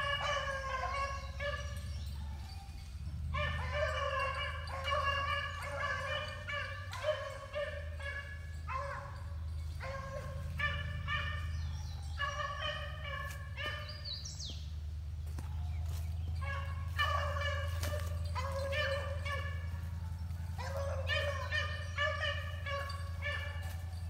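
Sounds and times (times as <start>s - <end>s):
beagles baying: 0.0s - 24.0s.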